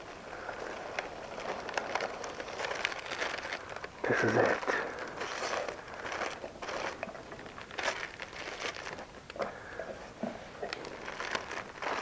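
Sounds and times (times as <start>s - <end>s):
packing material crinkling: 0.0s - 9.7s, 10.6s - 12.0s.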